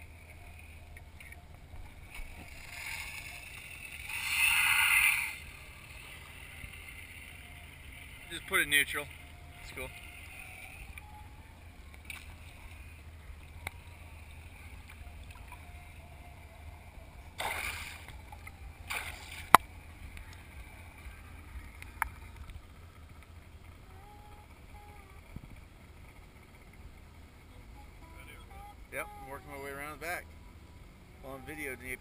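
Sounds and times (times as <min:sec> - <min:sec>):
boat engine idling: 0:00.0 - 0:32.0.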